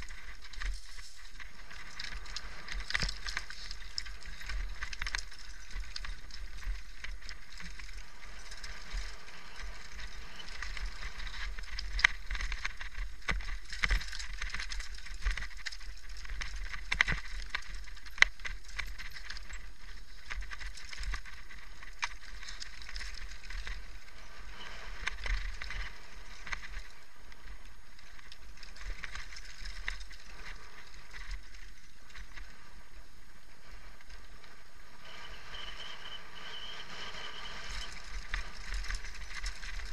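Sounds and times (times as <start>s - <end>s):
bike rattling: 0.0s - 39.9s
bike tyres over loose stones: 0.0s - 39.9s
steady low rumble: 0.0s - 39.9s.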